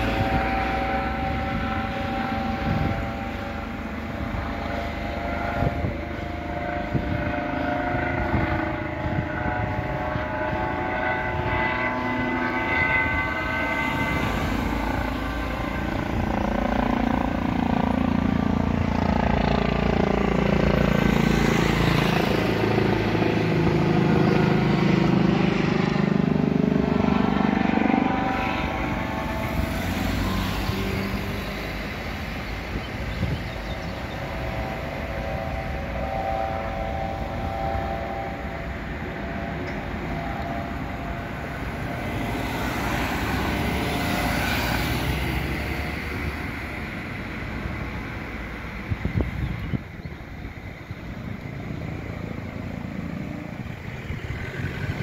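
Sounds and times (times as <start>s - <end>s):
helicopter flying past: 0.0s - 55.0s.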